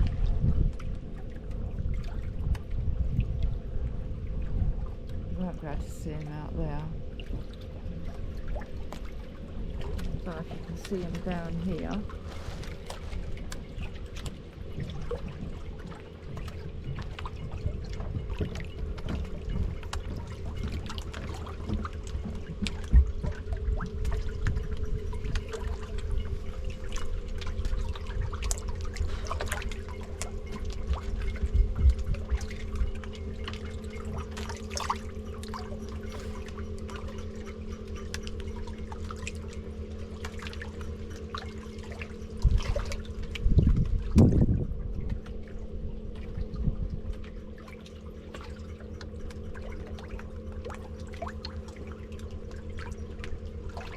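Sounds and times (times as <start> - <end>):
steady low hum: 0.0 - 53.9
water trickling and lapping: 0.0 - 53.9.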